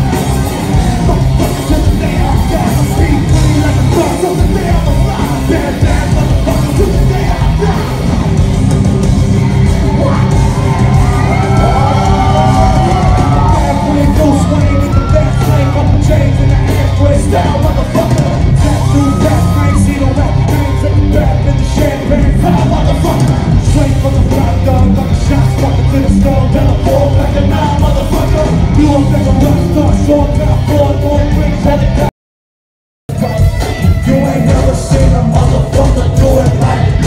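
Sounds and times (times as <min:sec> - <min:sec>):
rapper's vocals: 0:00.0 - 0:08.4, 0:11.4 - 0:32.1, 0:33.1 - 0:37.0
band playing loud amplified music: 0:00.0 - 0:32.1, 0:33.1 - 0:37.0.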